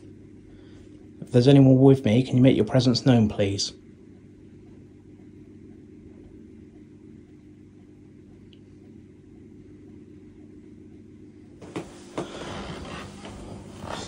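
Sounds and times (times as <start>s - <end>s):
extractor fan humming: 0.0s - 14.0s.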